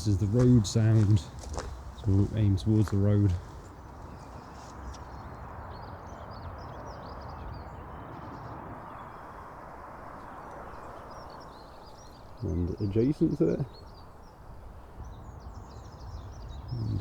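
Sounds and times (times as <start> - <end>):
distant road traffic: 0.0 - 17.0
small birds chirping: 0.0 - 17.0.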